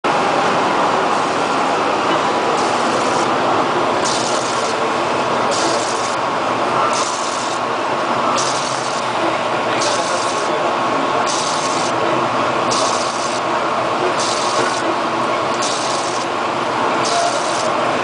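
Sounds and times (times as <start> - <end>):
steady loud machine noise: 0.0 - 18.0.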